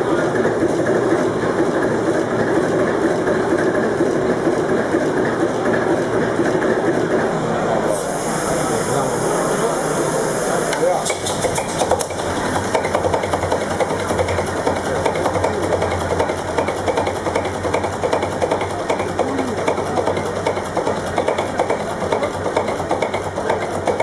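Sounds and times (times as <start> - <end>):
diesel engine clattering: 0.0 - 24.0.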